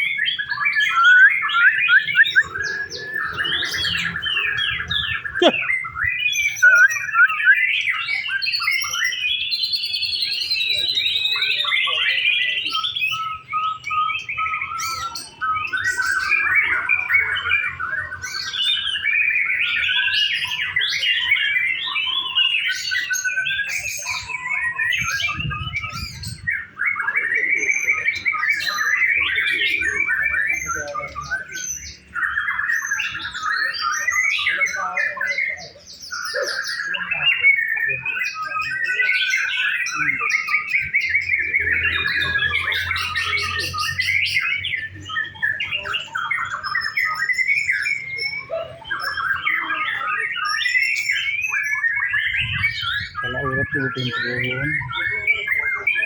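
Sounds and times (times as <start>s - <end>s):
bird singing trilled phrases: 0.0s - 56.0s.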